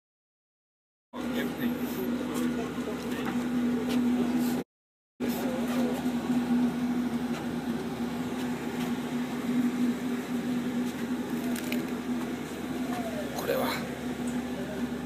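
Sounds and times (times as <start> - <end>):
ship machinery humming: 1.2 - 4.6, 5.2 - 15.0.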